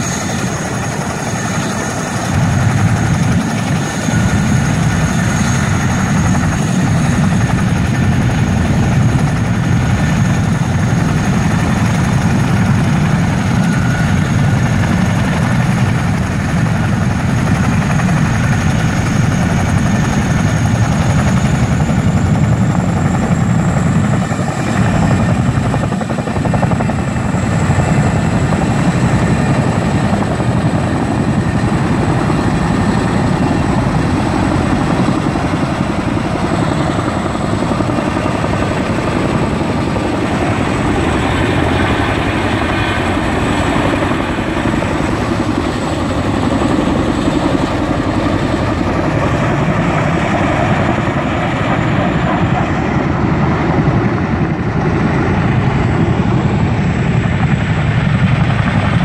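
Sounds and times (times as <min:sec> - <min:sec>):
helicopter rotor chop: 0:00.0 - 0:59.0
turbine engine whine: 0:00.0 - 0:59.0.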